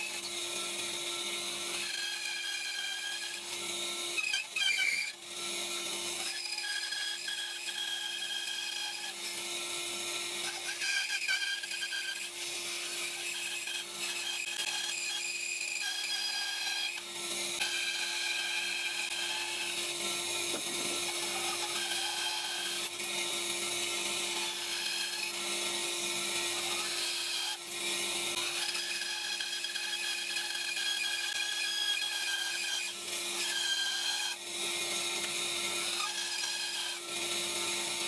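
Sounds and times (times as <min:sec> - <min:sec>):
bandsaw motor hum: 0:00.0 - 0:38.0
saw blade rasping through wood: 0:00.0 - 0:38.0.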